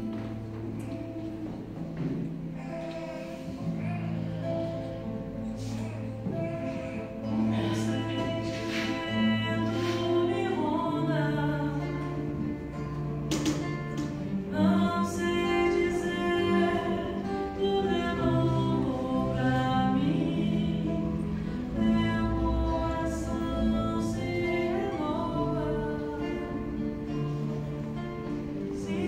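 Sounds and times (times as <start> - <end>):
acoustic guitar: 0.0 - 29.0
person singing slow song: 0.0 - 29.0.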